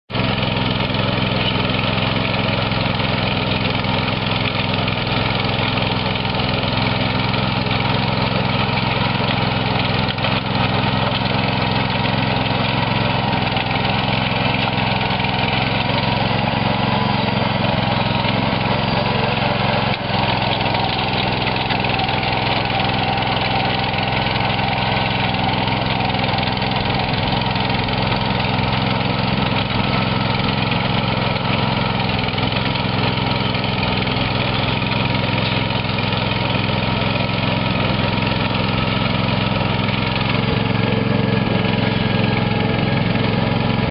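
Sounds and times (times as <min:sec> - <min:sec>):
tractor engine running: 0:00.1 - 0:43.9.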